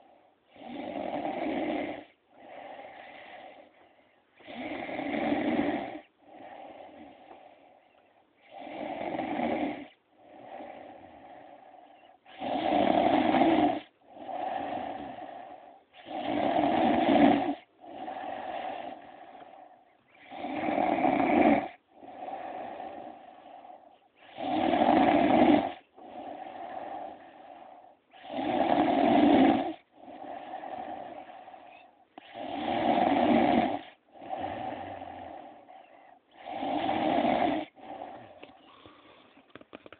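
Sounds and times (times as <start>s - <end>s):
woman snoring: 0.0s - 3.8s, 4.4s - 7.6s, 8.4s - 39.9s
soft breathing: 1.8s - 39.9s.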